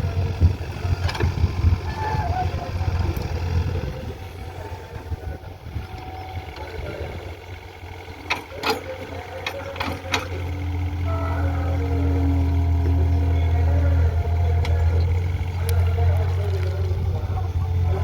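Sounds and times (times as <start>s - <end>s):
digger diesel engine running: 0.0s - 18.0s.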